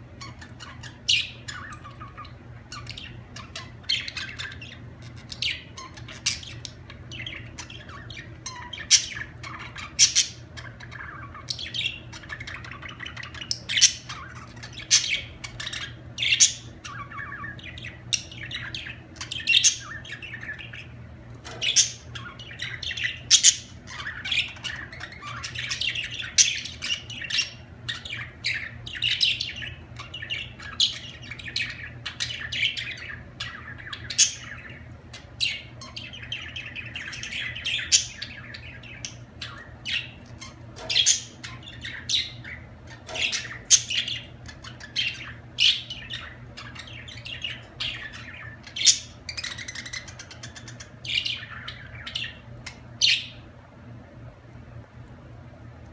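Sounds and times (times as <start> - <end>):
budgerigars chirping and squawking: 0.0 - 53.6
faint low hum: 0.0 - 55.9.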